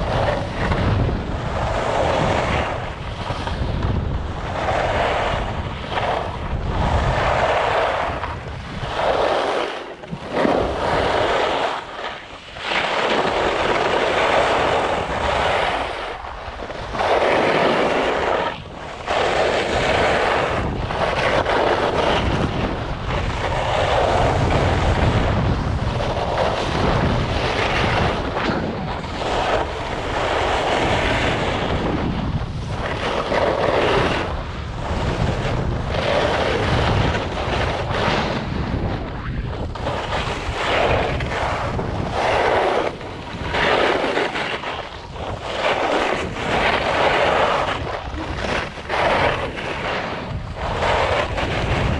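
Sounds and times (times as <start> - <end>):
skis scraping over snow: 0.0 - 51.9
wind buffeting microphone: 0.0 - 51.9.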